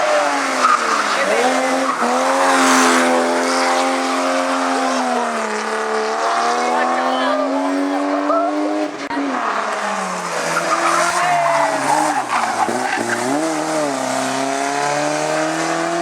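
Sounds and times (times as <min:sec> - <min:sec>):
race car engine revving: 0:00.0 - 0:16.0
tyres squealing: 0:00.0 - 0:16.0.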